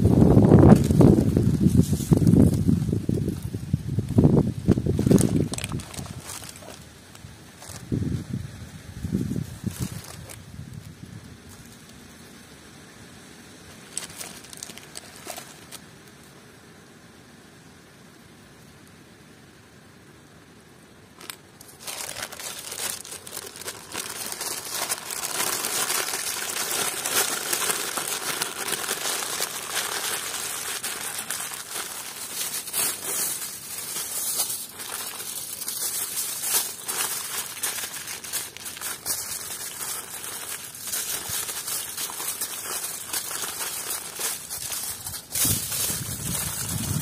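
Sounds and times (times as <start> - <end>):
crinkly material rustling: 0.4 - 12.0, 13.6 - 16.2, 21.2 - 47.0.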